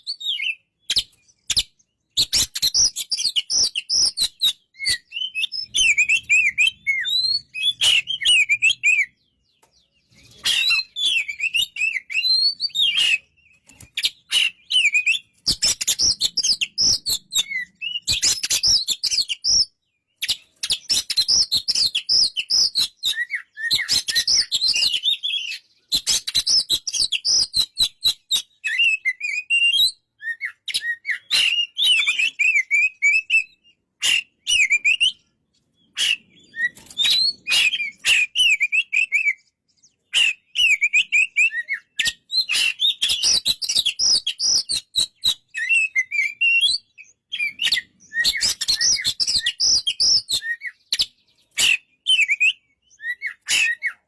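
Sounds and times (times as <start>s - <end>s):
bird warbling song: 0.0s - 54.0s.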